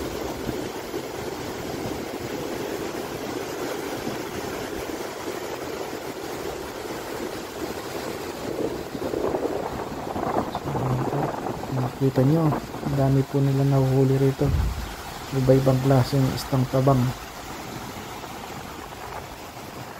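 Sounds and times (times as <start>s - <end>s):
floodwater rushing through dam: 0.0s - 19.9s.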